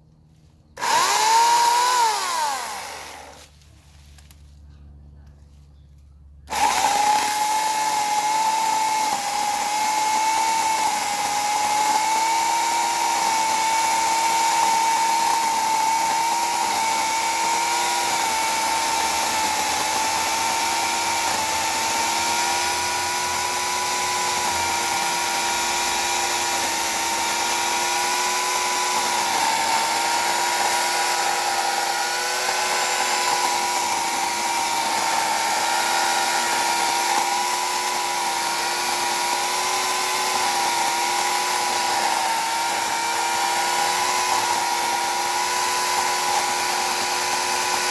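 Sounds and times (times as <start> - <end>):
electric chainsaw whine: 0.8 - 4.0, 6.5 - 47.9.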